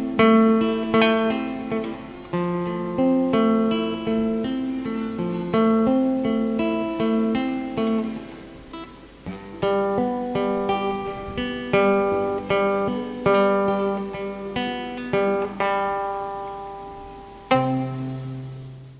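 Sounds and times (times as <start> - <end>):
guitar strumming chords: 0.0 - 18.9.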